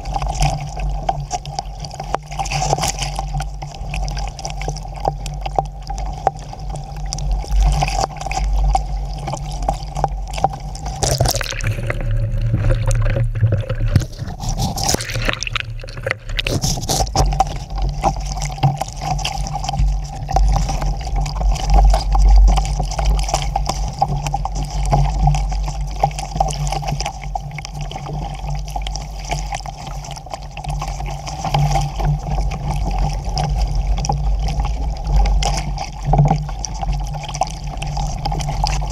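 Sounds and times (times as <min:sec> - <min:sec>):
water splashing and sloshing: 0:00.0 - 0:38.9
wind rumbling on microphone: 0:00.0 - 0:38.9.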